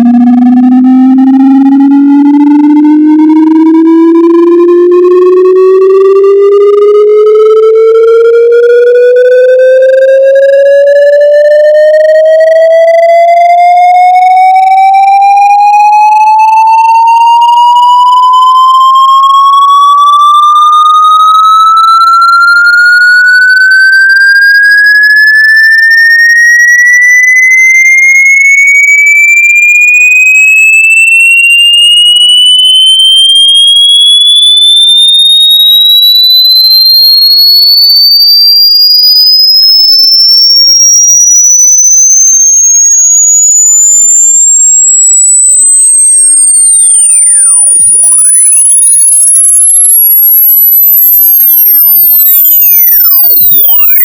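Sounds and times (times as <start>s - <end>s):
electronic tone gliding upward: 0.0s - 54.0s.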